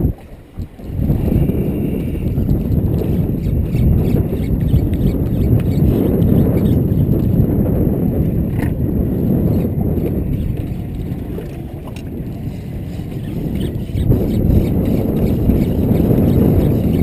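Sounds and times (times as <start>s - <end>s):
fishing boat engine rumbling: 0.0s - 17.0s.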